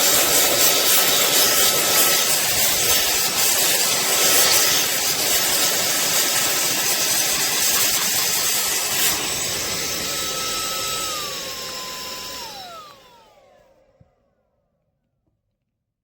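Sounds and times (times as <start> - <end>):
handheld vacuum running: 0.0 - 14.7
vacuum motor winding down: 0.0 - 14.7.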